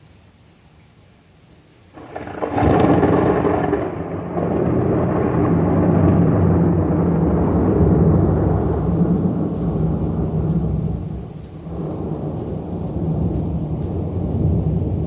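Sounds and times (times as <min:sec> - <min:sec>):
faint background noise: 0:00.0 - 0:15.0
loud thunder rumbling: 0:02.0 - 0:15.0.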